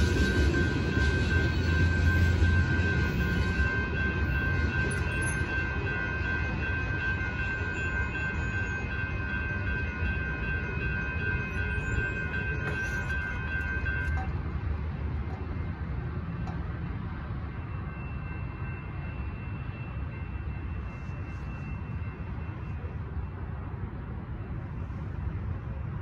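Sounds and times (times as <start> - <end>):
railroad crossing bell ringing: 0.0 - 26.0
train rumble: 0.0 - 26.0.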